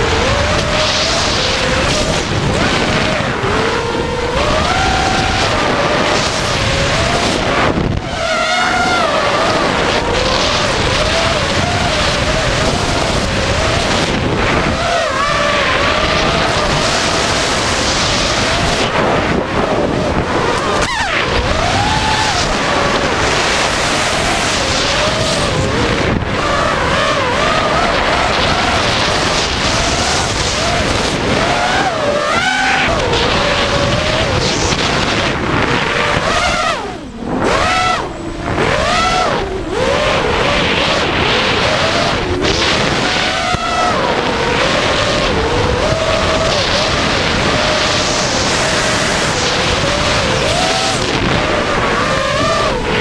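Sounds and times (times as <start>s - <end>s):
drone motor whine: 0.0s - 53.0s
wind rush on microphone: 0.0s - 53.0s.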